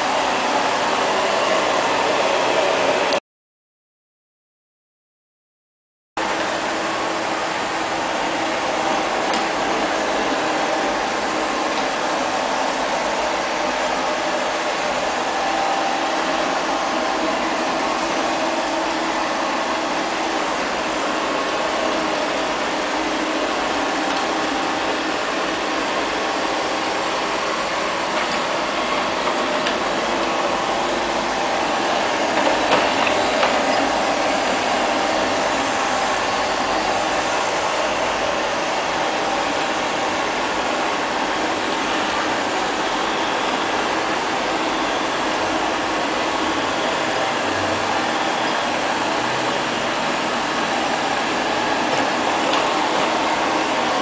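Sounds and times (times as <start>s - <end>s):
robot vacuum cleaner whirring: 0.0s - 3.2s, 6.2s - 54.0s.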